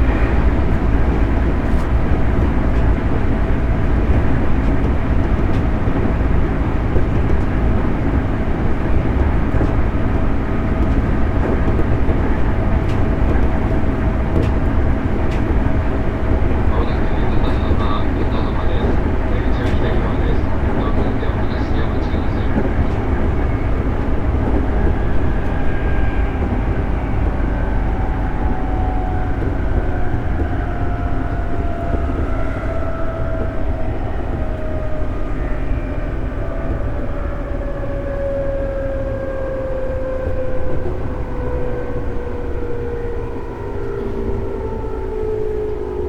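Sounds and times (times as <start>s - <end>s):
train motor whine: 0.0s - 46.0s
train wheels rumbling on rail: 0.0s - 46.0s.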